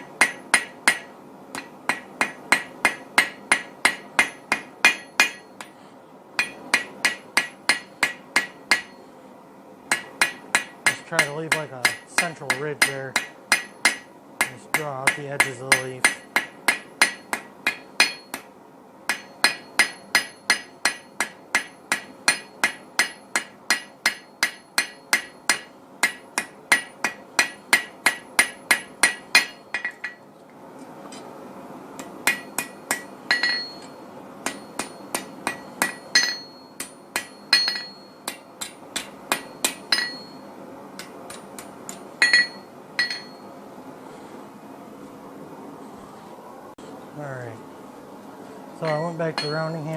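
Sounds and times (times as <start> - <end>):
hammer striking steel on anvil: 0.2 - 5.8, 6.4 - 9.0, 9.9 - 18.5, 19.1 - 30.2, 32.0 - 43.5, 48.8 - 49.9.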